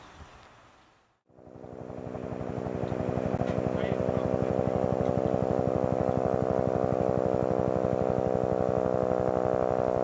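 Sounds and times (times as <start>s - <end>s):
helicopter engine hum: 1.3s - 10.0s
helicopter rotor beat: 1.3s - 10.0s.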